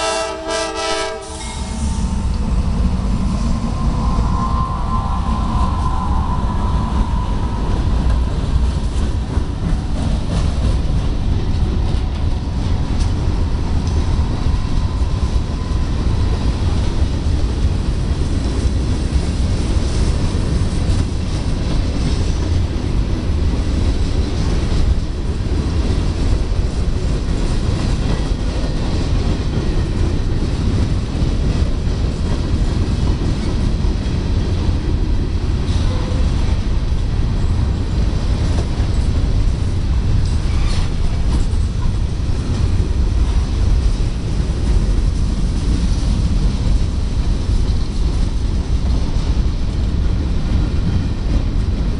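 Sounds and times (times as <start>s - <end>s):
freight train wheels clattering: 0.0s - 51.9s.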